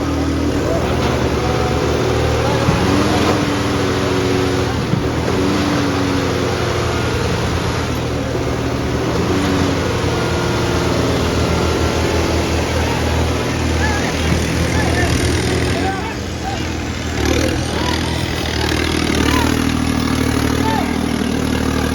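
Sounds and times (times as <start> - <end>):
tractor diesel engine under load: 0.0 - 21.9
voices shouting: 0.0 - 21.9.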